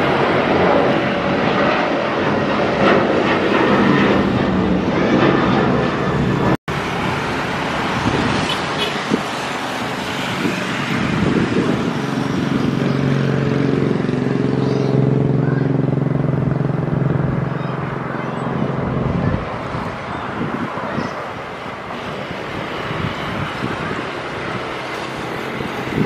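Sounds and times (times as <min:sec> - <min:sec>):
jet airliner engine: 0:00.0 - 0:26.0
road traffic: 0:00.0 - 0:26.0.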